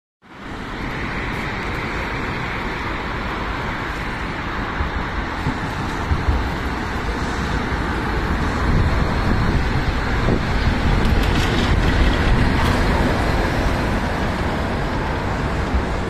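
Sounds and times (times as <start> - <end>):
road traffic rumble: 0.2 - 16.0
tram approaching on track: 0.2 - 16.0.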